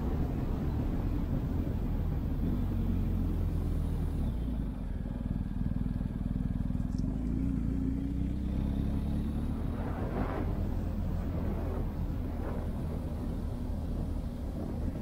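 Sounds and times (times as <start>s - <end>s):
motorcycle engine running: 0.1s - 15.0s.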